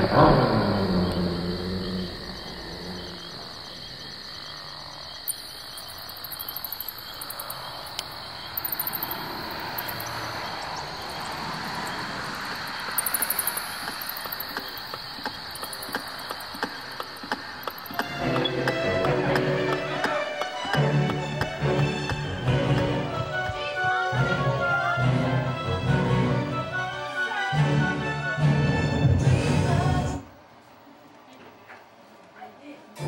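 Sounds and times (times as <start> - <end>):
crickets chirping: 0.0 - 27.2.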